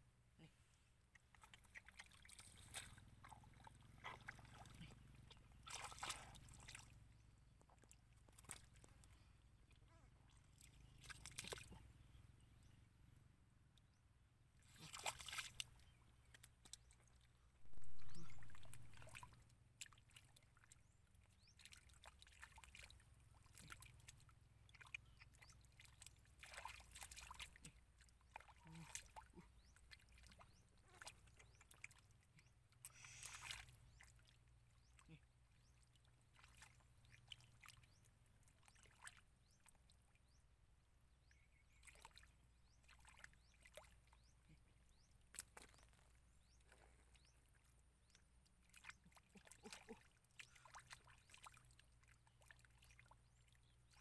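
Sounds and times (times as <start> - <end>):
muddy water sloshing and squelching: 0.4 - 13.8, 14.5 - 54.0.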